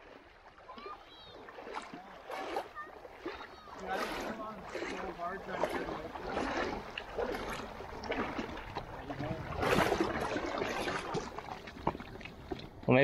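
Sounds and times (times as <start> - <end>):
water lapping around raft: 0.0 - 13.0.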